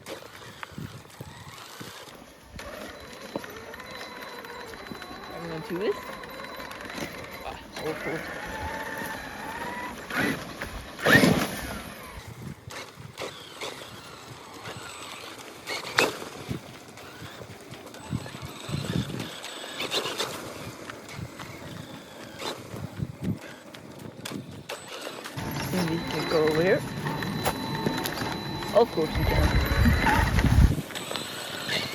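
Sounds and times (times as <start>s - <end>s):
tyres crunching: 0.0s - 31.9s
electric motor whine: 0.1s - 31.9s.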